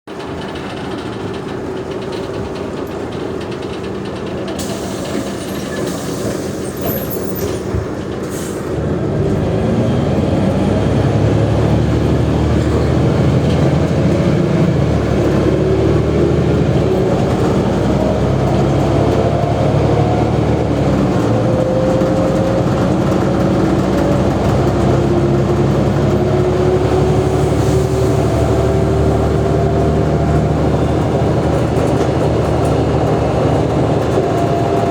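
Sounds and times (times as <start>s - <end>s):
bus diesel engine running: 0.1s - 34.9s.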